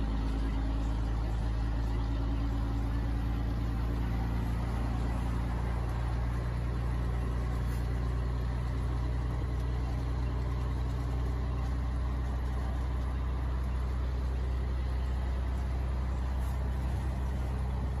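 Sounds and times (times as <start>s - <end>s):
road noise: 0.0s - 18.0s
truck diesel engine running: 0.0s - 18.0s.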